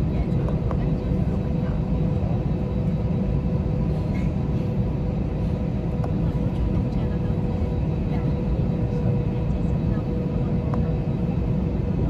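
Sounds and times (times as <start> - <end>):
low rumble of cabin noise: 0.0 - 12.0.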